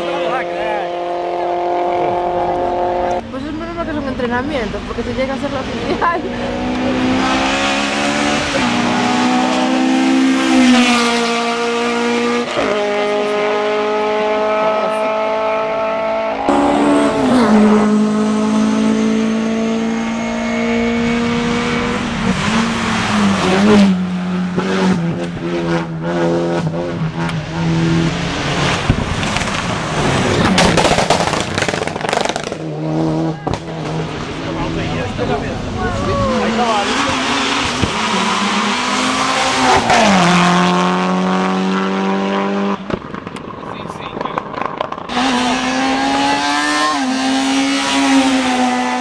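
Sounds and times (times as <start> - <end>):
race car engine howling: 0.0 - 49.0.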